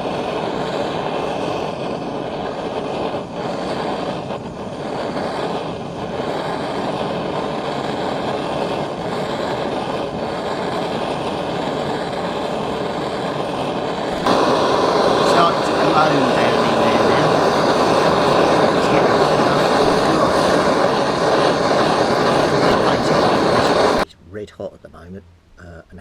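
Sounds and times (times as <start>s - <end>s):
blow lamp flame hissing: 0.0s - 24.1s.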